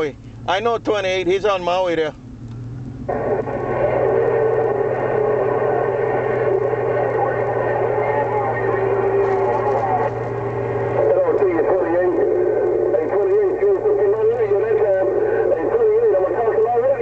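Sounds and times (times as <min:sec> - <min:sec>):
radio hiss with low hum: 0:03.1 - 0:17.0.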